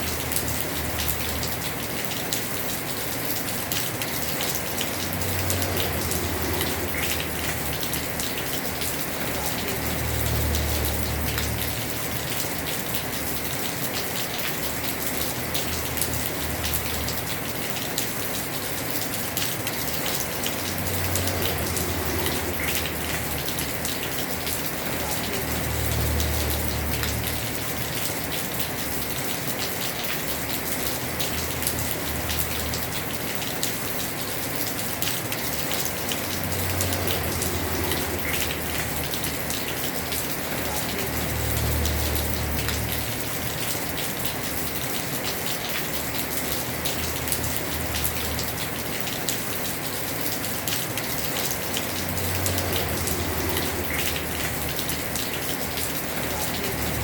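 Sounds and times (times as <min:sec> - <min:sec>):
heavy rain on a roof: 0:00.0 - 0:57.0
raindrops ticking: 0:00.0 - 0:57.0.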